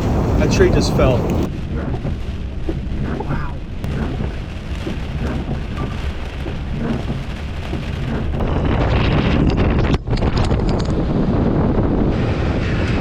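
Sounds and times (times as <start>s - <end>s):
heavy rain: 0.0s - 10.0s, 10.9s - 13.0s
strong wind: 0.0s - 13.0s.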